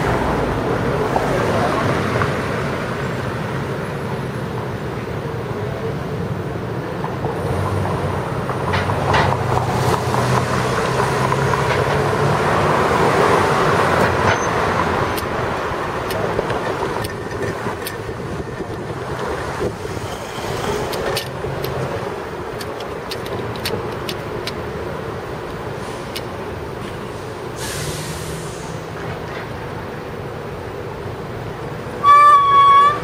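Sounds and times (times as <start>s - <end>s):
light traffic noise: 0.0s - 33.0s.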